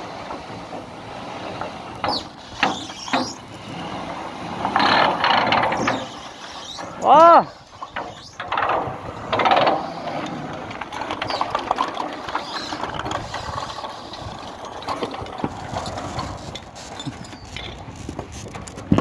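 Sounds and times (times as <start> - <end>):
metal roof sheet scraping: 0.0 - 19.0.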